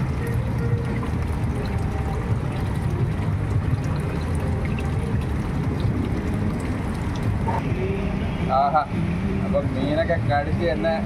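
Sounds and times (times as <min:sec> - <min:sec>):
water rushing and bubbling: 0:00.0 - 0:09.3.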